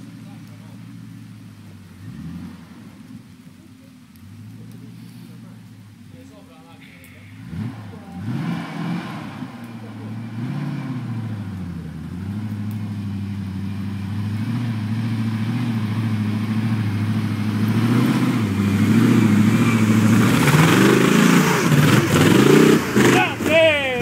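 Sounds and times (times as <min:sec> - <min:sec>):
off-road vehicle engine under load: 0:00.0 - 0:24.0.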